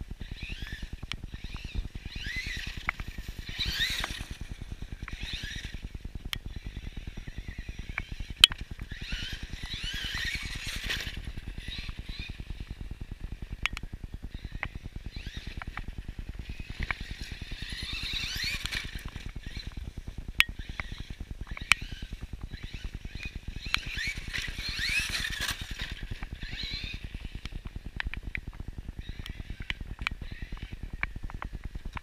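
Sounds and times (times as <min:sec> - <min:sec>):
electric motor whining: 0:00.0 - 0:31.9
sharp clicks: 0:00.2 - 0:12.8, 0:13.5 - 0:32.0.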